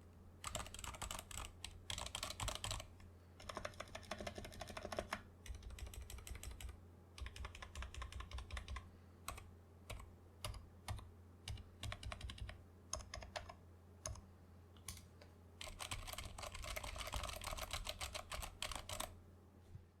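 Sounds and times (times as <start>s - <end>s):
mechanical keyboard typing: 0.4s - 14.2s, 15.6s - 19.2s.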